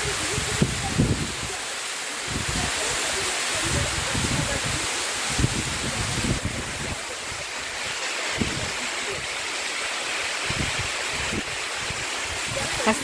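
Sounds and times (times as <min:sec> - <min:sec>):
wind gusts on microphone: 0:00.0 - 0:01.6, 0:02.2 - 0:09.4, 0:10.3 - 0:13.0
waterfall rushing: 0:00.0 - 0:13.0.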